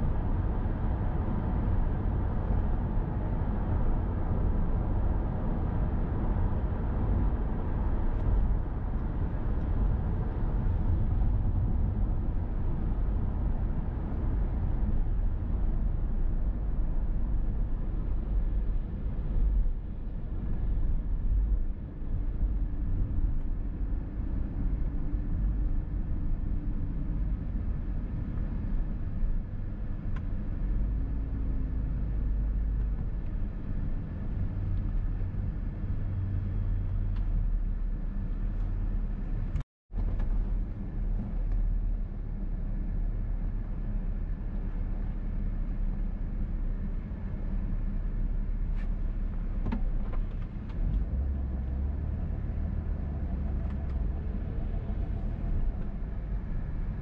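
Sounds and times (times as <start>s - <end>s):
car road noise at highway speed: 0.0s - 57.0s.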